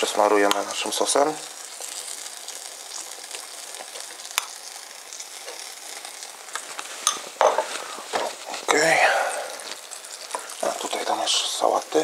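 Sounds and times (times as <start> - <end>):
food sizzling in a grill pan: 0.0 - 12.0.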